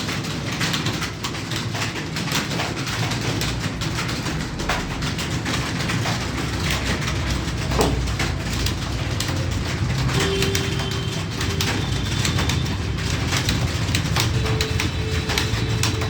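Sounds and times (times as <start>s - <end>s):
keyboard typing: 0.2s - 16.0s.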